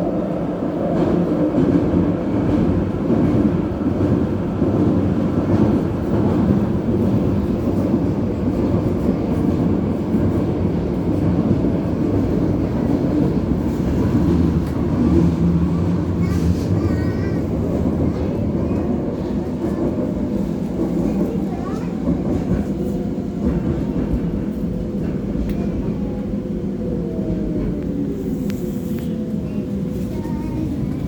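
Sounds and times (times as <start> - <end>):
metro train wheels rumbling: 0.0 - 31.0.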